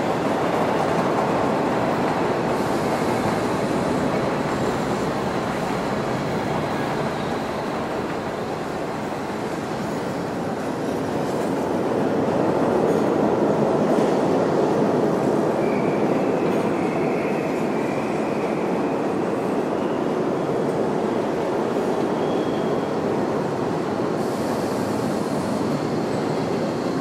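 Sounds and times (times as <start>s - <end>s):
subway train running on track: 0.0s - 27.0s.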